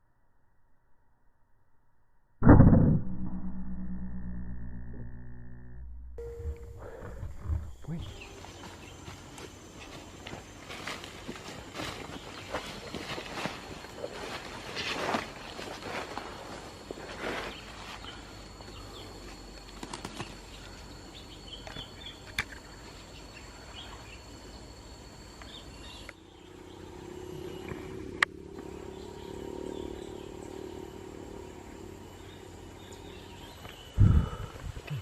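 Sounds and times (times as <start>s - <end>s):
night insects chirring: 6.2s - 35.0s.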